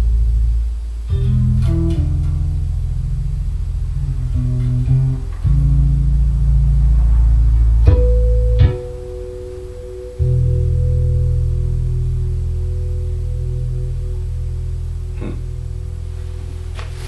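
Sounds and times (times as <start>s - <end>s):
bass guitar riff: 0.0s - 17.0s.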